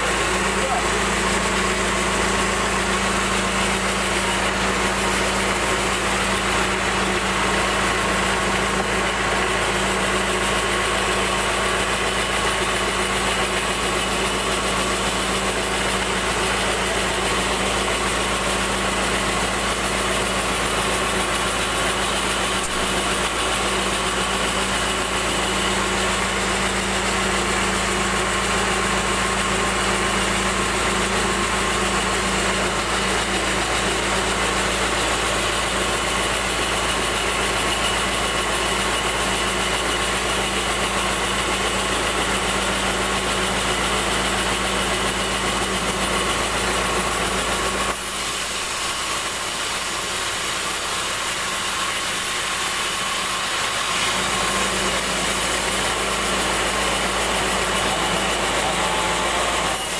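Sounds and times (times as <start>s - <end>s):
band saw machine hum: 0.0s - 59.9s.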